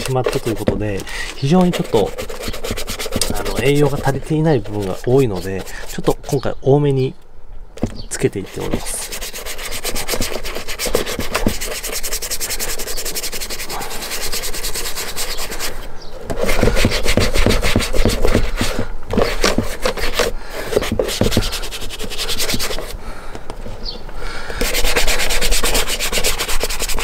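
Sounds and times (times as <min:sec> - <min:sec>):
brush scrubbing leather boot: 0:00.0 - 0:06.4, 0:08.4 - 0:15.8, 0:16.4 - 0:22.9, 0:24.6 - 0:27.0.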